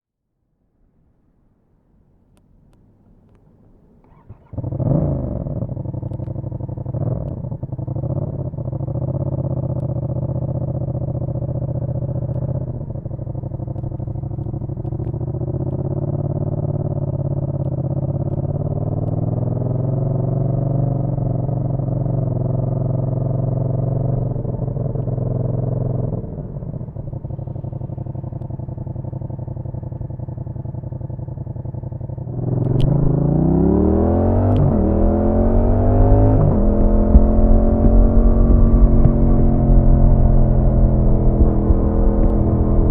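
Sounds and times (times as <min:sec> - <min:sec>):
motorcycle engine idling and revving: 0:02.9 - 0:42.9.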